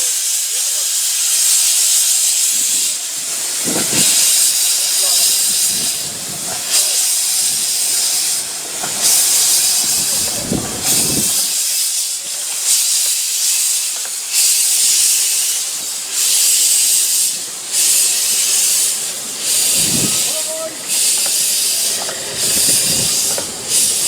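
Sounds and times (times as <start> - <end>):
steam locomotive hissing steam: 0.0 - 24.0.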